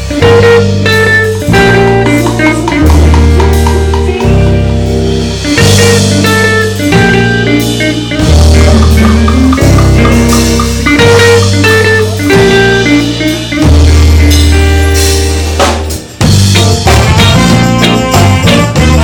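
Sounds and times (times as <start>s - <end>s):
drum kit: 0.0s - 19.0s
guitar: 0.0s - 19.0s
held bass notes: 0.0s - 19.0s.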